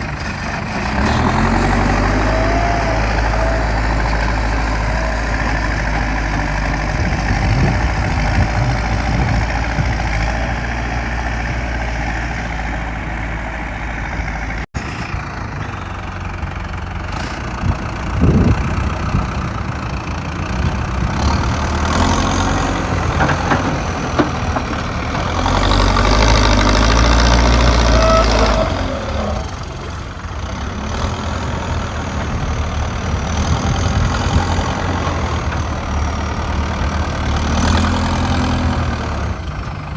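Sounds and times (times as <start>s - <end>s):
digger diesel engine rumbling: 0.0s - 39.9s.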